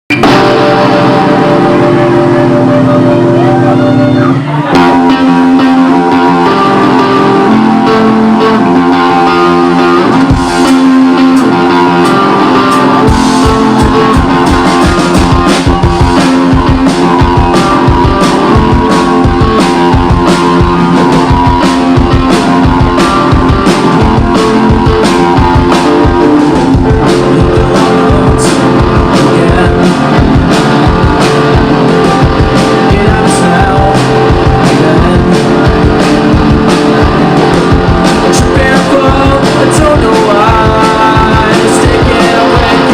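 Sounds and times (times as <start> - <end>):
drum kit beat: 0.1 - 42.9
electric guitar chords: 0.1 - 42.9.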